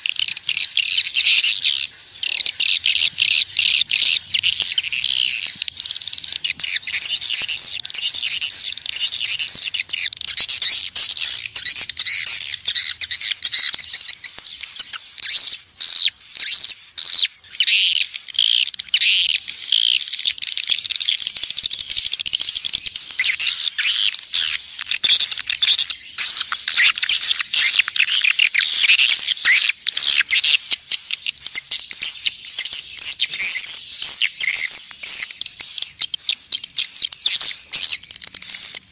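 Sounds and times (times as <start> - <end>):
swiftlets twittering and chirping: 0.0 - 38.9.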